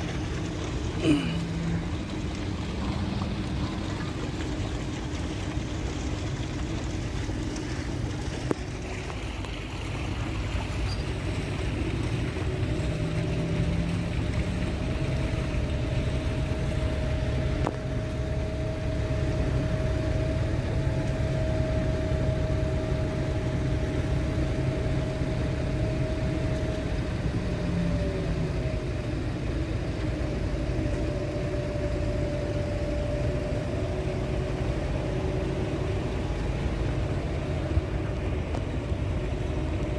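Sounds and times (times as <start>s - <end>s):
diesel engine rumble: 0.0s - 39.9s
thin steady whine: 0.0s - 39.9s.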